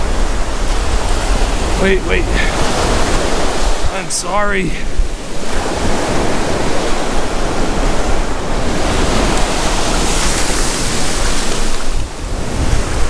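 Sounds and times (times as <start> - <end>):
waves breaking on beach: 0.0 - 13.0
wind rumbling on microphone: 0.0 - 13.0.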